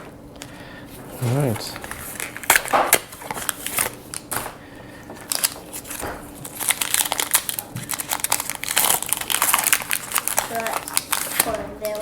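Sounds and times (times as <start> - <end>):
foil wrapper crinkling: 1.1 - 4.5, 5.2 - 12.0.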